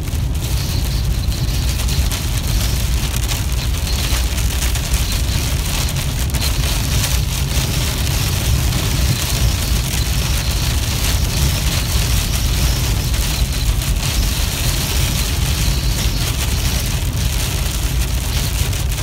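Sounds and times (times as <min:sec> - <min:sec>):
rain hitting car windshield: 0:00.0 - 0:19.0
road and wind rumble: 0:00.0 - 0:19.0.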